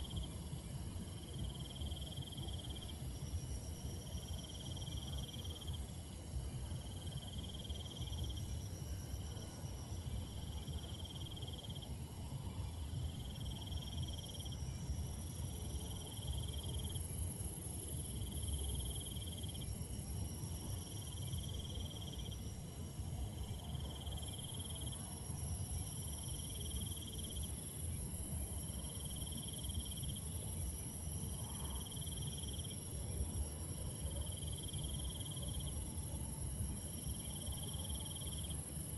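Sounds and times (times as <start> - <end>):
insect pulsed trill: 0.0 - 38.9.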